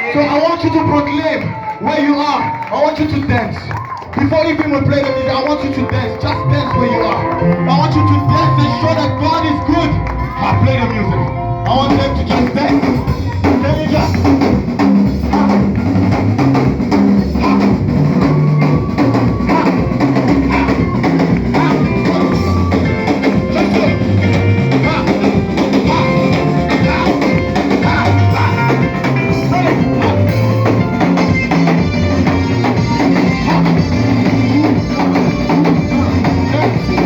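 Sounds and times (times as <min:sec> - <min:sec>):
band playing instrumental dance groove: 0:00.0 - 0:37.0.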